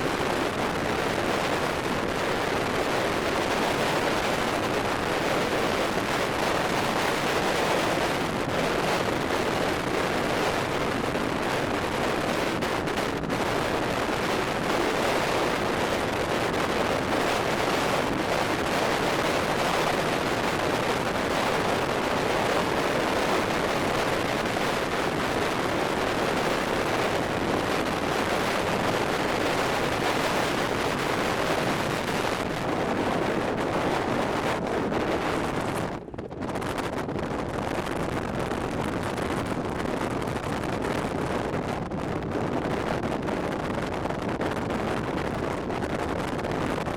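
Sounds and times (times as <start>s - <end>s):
strong storm wind rushing: 0.0s - 46.9s.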